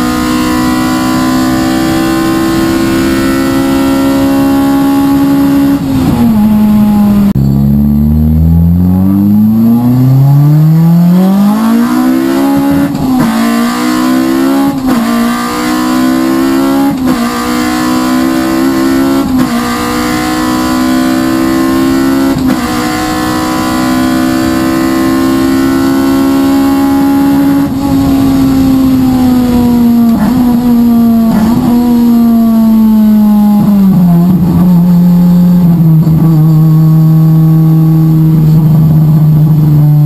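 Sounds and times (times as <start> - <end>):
car engine at full throttle: 0.0 - 40.0.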